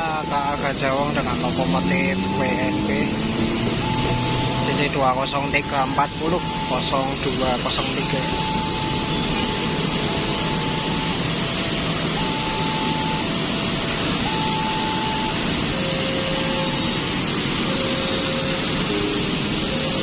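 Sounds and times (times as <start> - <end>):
locomotive engine droning: 0.0 - 20.0.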